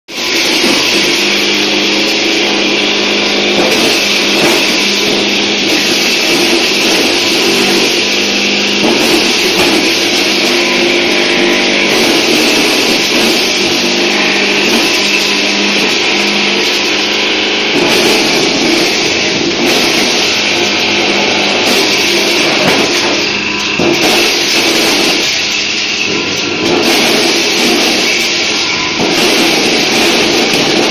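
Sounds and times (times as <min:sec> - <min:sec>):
kernels rattling through sheller: 0:00.2 - 0:30.9
motor hum: 0:00.2 - 0:30.9.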